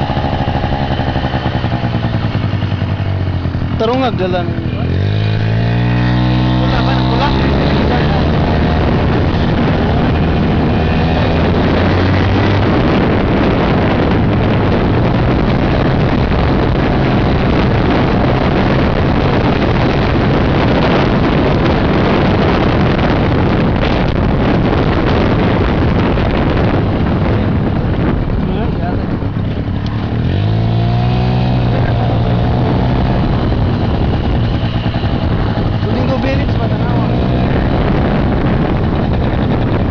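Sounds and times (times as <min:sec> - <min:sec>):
two-stroke engine running: 0:00.0 - 0:39.9
wind buffeting microphone: 0:00.0 - 0:39.9.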